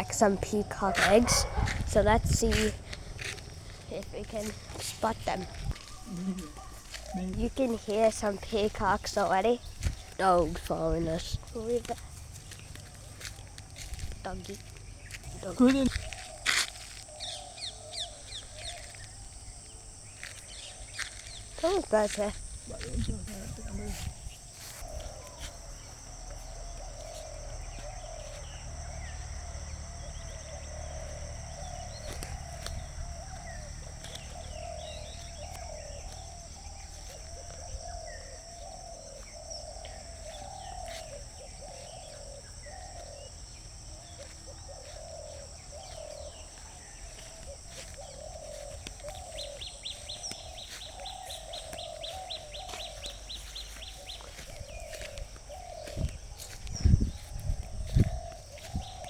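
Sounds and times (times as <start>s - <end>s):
birds calling: 0.0s - 59.0s
high-pitched insect drone: 0.0s - 59.0s.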